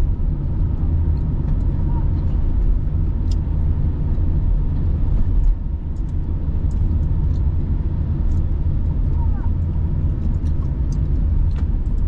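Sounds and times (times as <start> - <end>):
car cabin engine and tyre rumble: 0.0 - 12.0.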